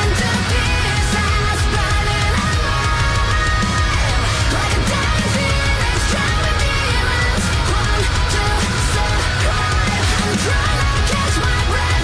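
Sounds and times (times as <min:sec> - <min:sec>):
heavy rock with electric guitar: 0:00.0 - 0:12.0.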